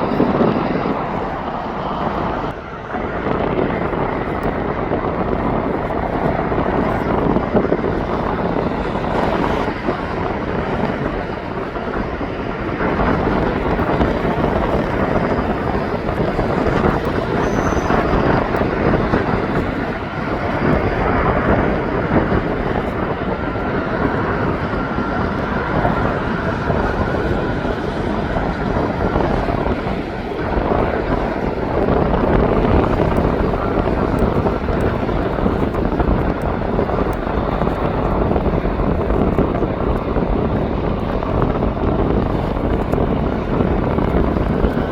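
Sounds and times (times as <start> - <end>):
faint high whine: 0.0 - 44.9
jet engines roaring: 0.0 - 44.9.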